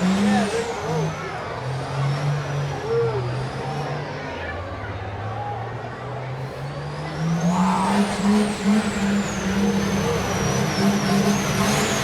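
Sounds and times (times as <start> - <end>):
truck engine running loud: 0.0 - 12.0.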